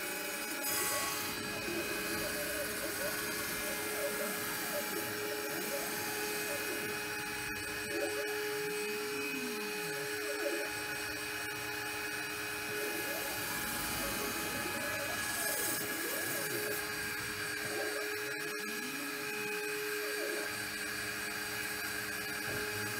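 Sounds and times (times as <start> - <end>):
spindle whining: 0.6 - 22.3.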